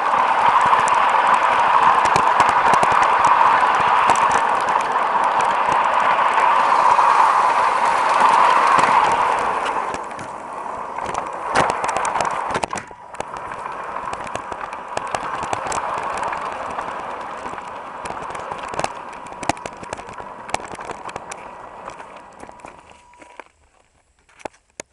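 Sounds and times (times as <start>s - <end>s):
model train motor whine: 0.0s - 23.6s
wheels clicking over rail joints: 0.0s - 24.9s.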